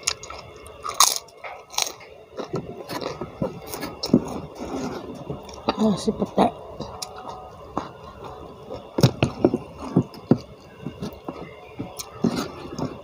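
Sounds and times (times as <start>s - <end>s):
clicks and crackles of food handled: 0.0s - 5.8s, 6.8s - 13.0s.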